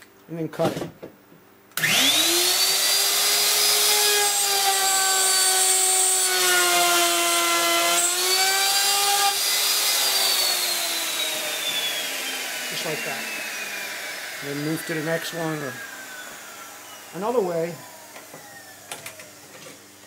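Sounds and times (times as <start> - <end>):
electric router cutting wood: 1.8 - 20.0.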